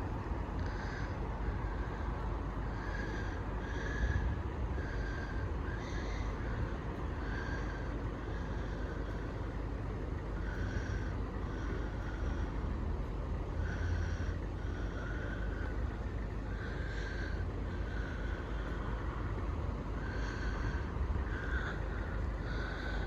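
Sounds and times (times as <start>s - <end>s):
bird cawing: 0.0s - 23.0s
low background rumble: 0.0s - 23.0s.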